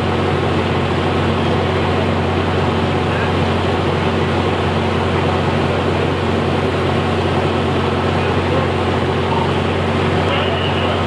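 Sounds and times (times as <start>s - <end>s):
large engine droning: 0.0s - 11.0s.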